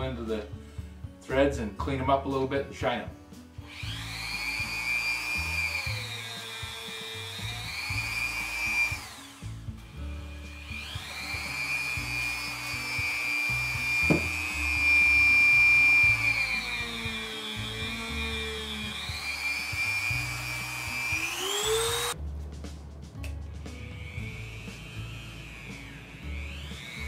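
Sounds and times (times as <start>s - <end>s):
rotary tool whining: 3.6s - 22.2s, 23.7s - 27.0s.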